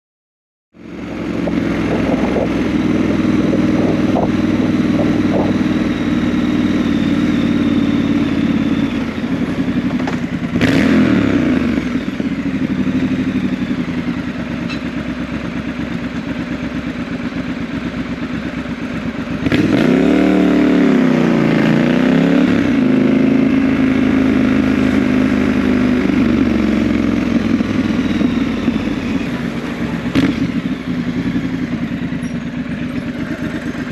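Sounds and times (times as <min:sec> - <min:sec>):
motorcycle engine running: 0:00.8 - 0:33.9.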